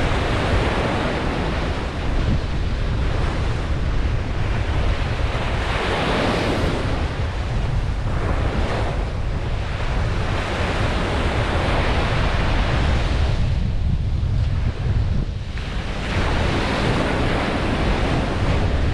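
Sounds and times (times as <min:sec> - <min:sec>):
ocean waves breaking on a beach: 0:00.0 - 0:18.9
wind buffeting the microphone: 0:00.0 - 0:18.9.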